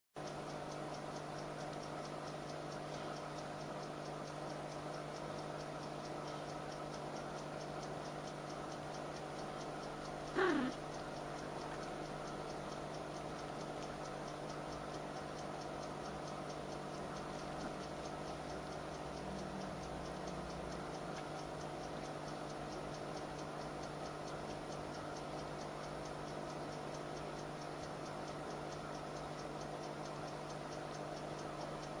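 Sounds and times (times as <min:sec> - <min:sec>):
low steady hum: 0:00.2 - 0:32.0
steady ticking: 0:00.2 - 0:32.0.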